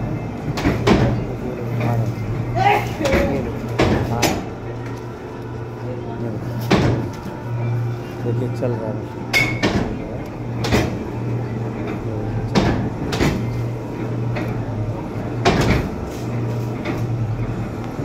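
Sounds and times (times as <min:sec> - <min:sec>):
machine motor hum: 0:00.0 - 0:18.0.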